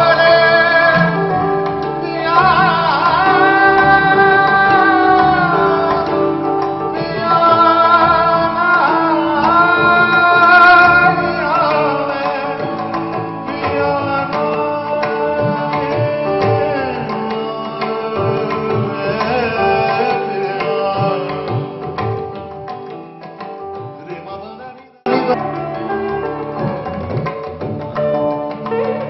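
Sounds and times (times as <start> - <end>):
man singing long held notes: 0.0 - 22.3, 23.0 - 25.8.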